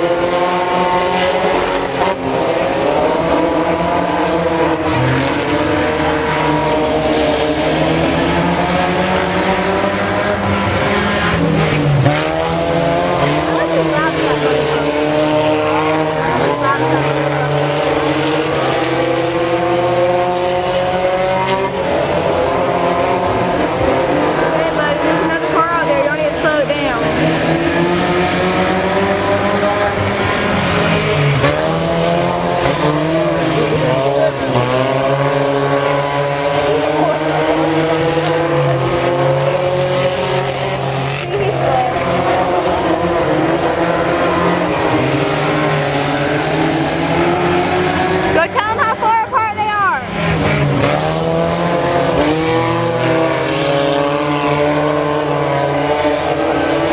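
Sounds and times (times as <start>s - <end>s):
race car engines: 0.0s - 56.9s.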